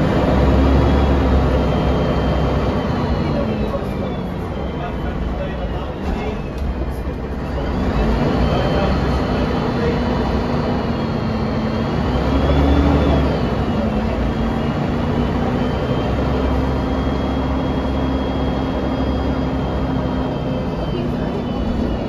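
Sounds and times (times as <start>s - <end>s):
bus engine rumbling: 0.0s - 22.0s
drivetrain whine: 0.0s - 22.0s.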